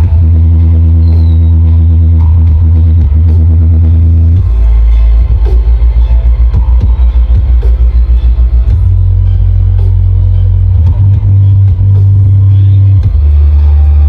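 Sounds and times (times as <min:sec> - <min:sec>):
bass-heavy electronic dance music: 0:00.0 - 0:14.0.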